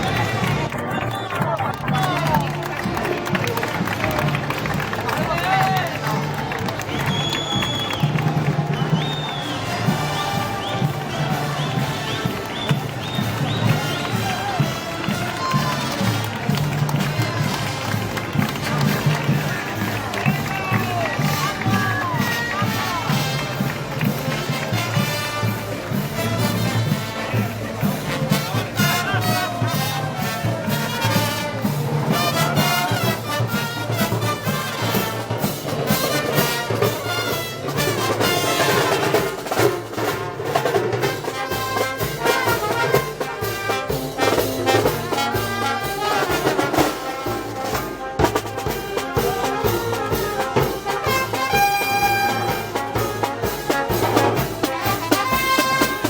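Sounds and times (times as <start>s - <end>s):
steady drum beat: 0.0s - 56.0s
wind band playing march: 0.0s - 56.0s.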